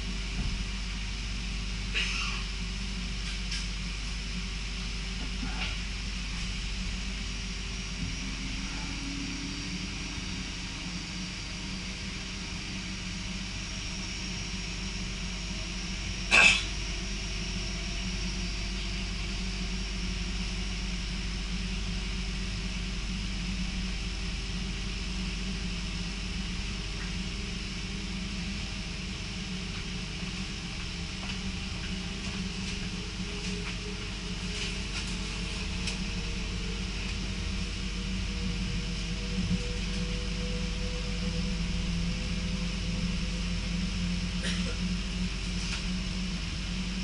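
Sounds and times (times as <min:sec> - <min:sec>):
electric train running rumble: 0:00.0 - 0:47.0.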